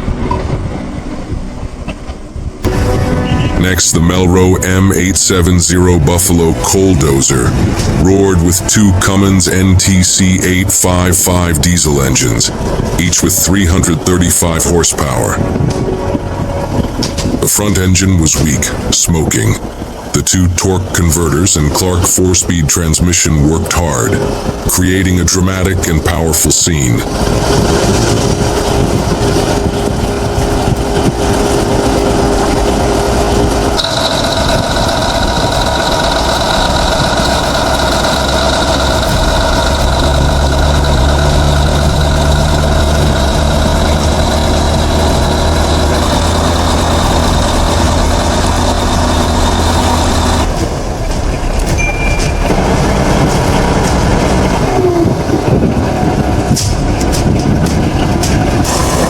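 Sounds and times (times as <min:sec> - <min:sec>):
diesel machinery engines running: 0:00.0 - 0:59.0.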